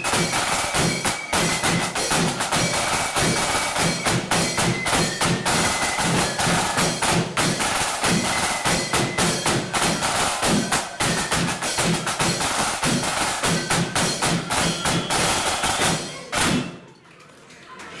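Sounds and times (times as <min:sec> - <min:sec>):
flutes playing: 0:00.0 - 0:16.3
snare and bass drumming: 0:00.0 - 0:16.7.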